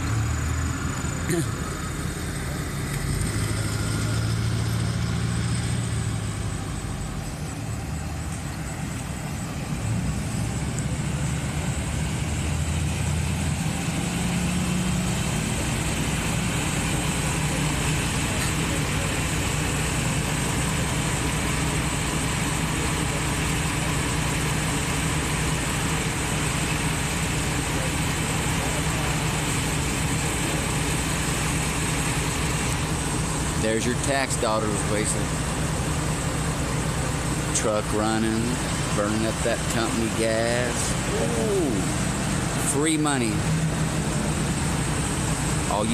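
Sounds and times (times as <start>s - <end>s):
vehicle engine idling: 0.0s - 45.9s.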